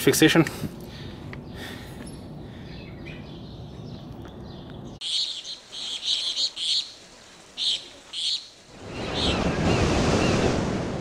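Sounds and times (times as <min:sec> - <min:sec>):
birds chirping: 0:00.2 - 0:10.7.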